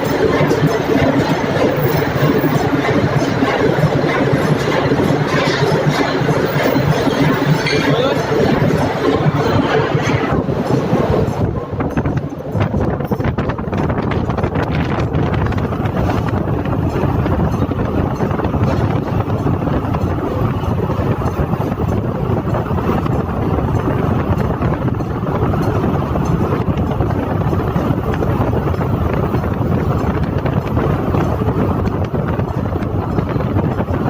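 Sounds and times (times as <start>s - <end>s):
industrial machinery din: 0.0s - 34.0s.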